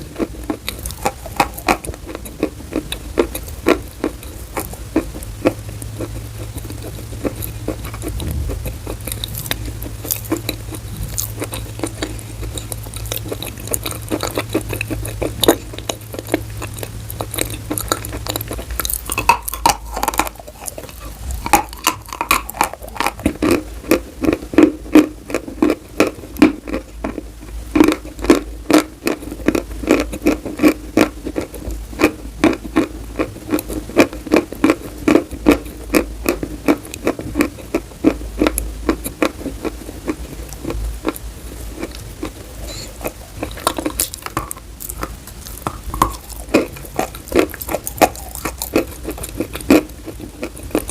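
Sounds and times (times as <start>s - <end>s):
chalk being chewed: 0.0s - 50.9s.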